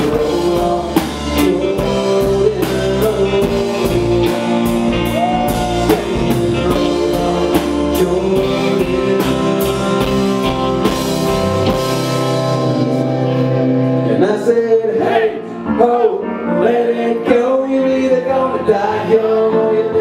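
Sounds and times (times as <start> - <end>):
electric guitar bending notes: 0.0 - 16.6
live rock band playing: 0.0 - 20.0.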